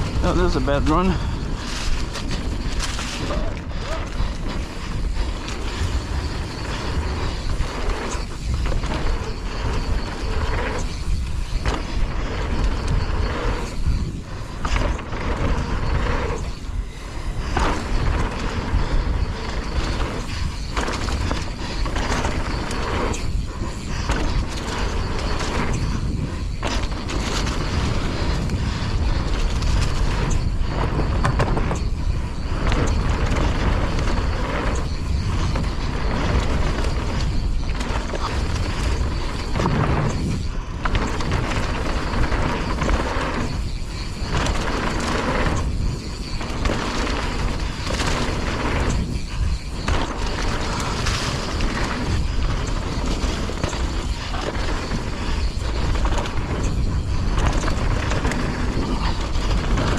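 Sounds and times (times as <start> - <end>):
bike chain and frame rattling: 0.0 - 59.9
wind rumble on microphone: 0.0 - 59.9.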